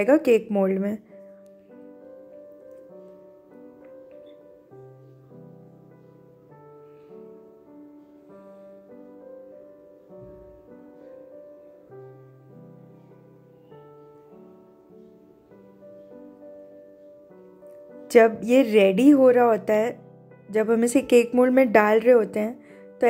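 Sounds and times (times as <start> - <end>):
quiet piano music: 0.0 - 23.0.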